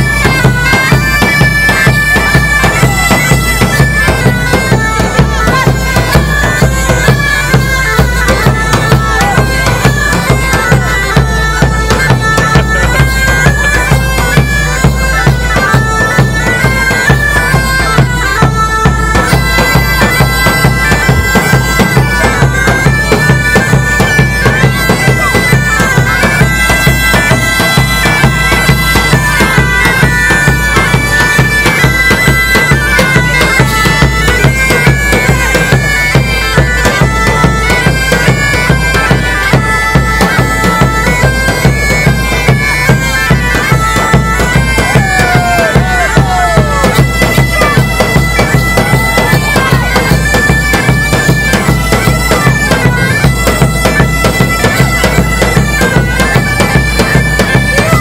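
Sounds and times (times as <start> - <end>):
bagpipes playing a dance tune: 0.0 - 58.0.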